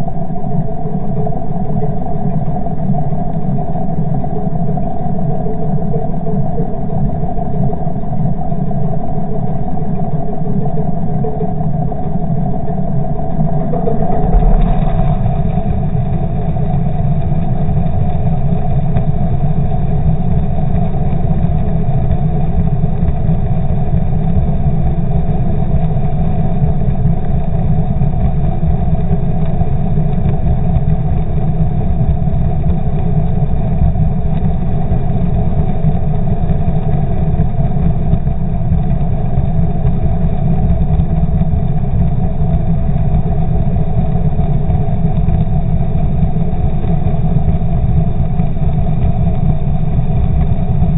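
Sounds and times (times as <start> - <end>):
outboard motor underwater rumble: 0.0 - 50.9.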